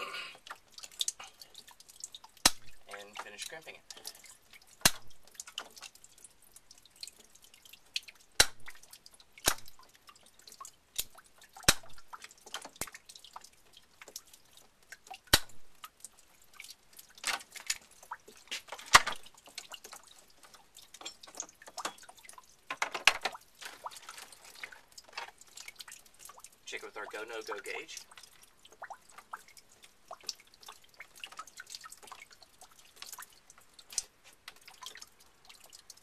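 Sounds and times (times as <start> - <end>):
water drops dripping: 0.0 - 36.0.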